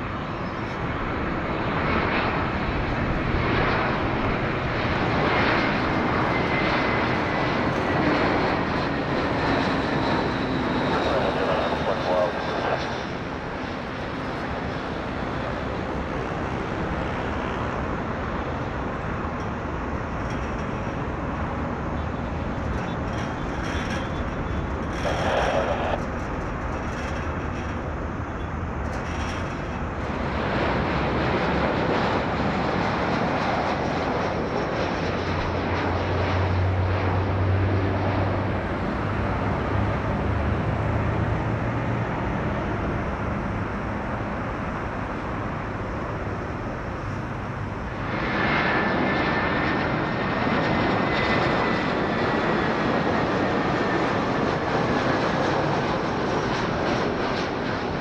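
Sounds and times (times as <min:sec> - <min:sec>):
jet engine roar: 0:00.0 - 0:58.0
low steady drone: 0:02.3 - 0:58.0.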